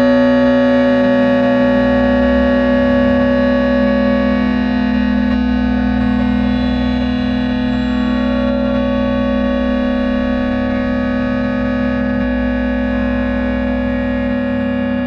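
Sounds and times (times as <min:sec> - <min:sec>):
time-stretched piano drone: 0:00.0 - 0:15.0.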